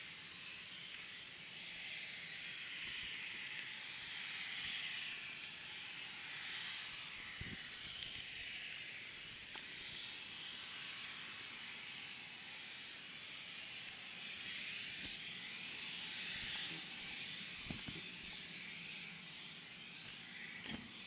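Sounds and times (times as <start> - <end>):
jet engines taxiing: 0.0 - 21.0.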